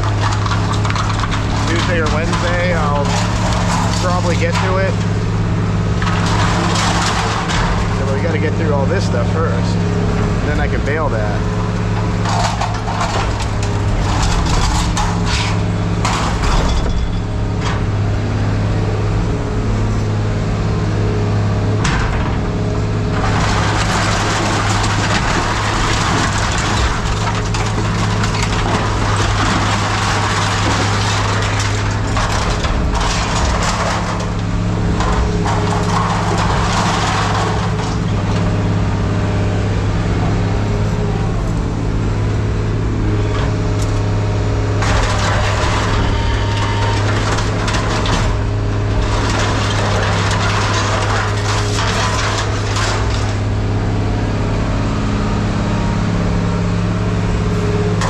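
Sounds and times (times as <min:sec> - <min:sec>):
scrap metal clattering: 0:00.0 - 0:20.1, 0:21.4 - 0:54.6.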